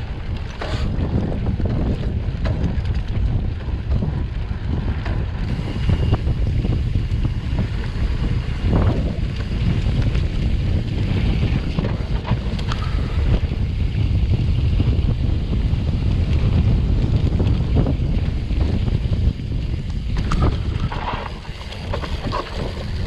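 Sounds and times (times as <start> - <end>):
bike clicks and rattles: 0.0 - 23.0
wind buffeting microphone: 0.0 - 23.0.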